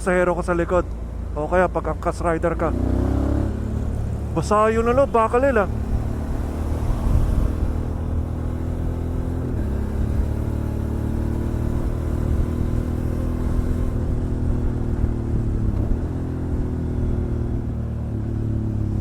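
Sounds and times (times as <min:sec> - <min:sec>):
road and wind noise: 0:00.0 - 0:19.0
motorcycle engine running: 0:02.0 - 0:19.0.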